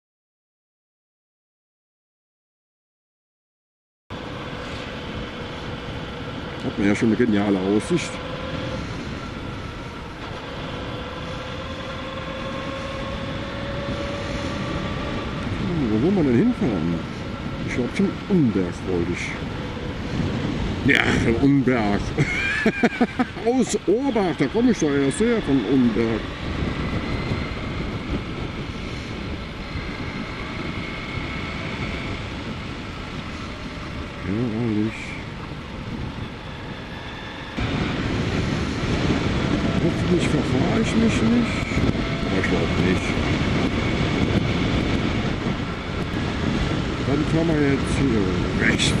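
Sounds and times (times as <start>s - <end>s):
wind and road noise: 4.1s - 49.0s.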